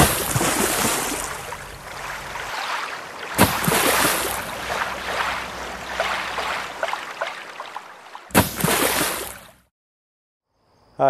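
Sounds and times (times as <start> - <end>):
rushing splashing water: 0.0 - 9.6.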